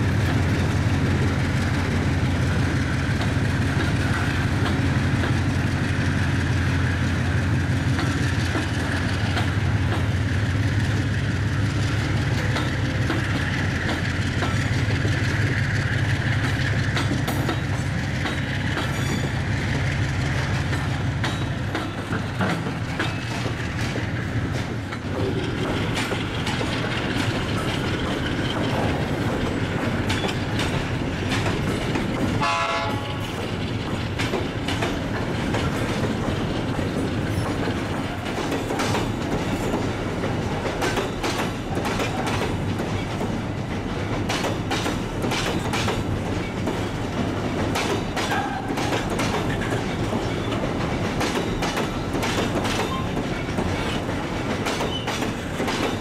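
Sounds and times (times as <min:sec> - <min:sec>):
freight train wagons rolling: 0:00.0 - 0:56.0
wheels clanking on rails: 0:00.0 - 0:56.0.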